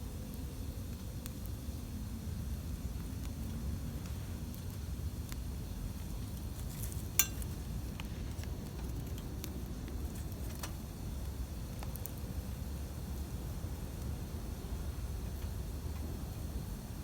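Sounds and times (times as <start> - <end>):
campfire rumble: 0.0 - 17.0
fire crackles and pops: 0.1 - 17.0.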